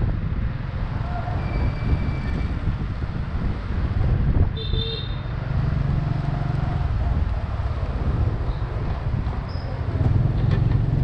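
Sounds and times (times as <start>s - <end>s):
scooter traffic: 0.0s - 11.0s
wind buffeting microphone: 0.0s - 11.0s
motorbike engine rumble: 0.8s - 11.0s.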